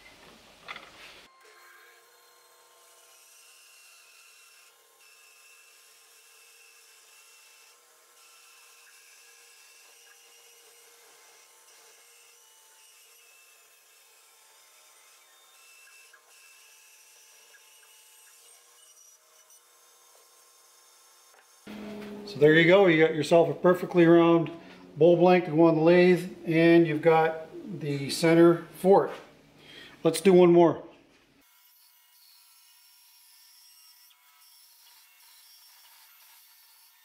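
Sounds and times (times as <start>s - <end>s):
bandsaw cutting wood: 1.2s - 26.1s, 31.4s - 37.0s.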